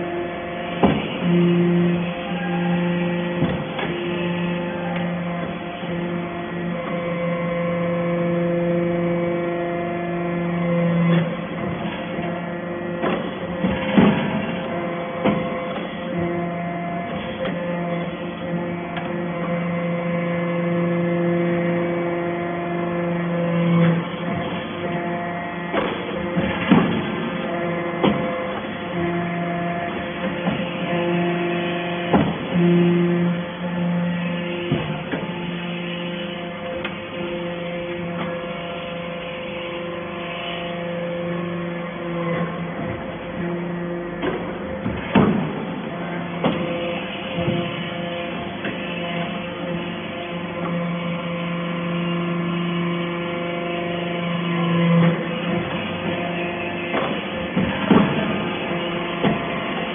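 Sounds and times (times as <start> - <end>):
hydraulic baler humming: 0.0 - 59.9.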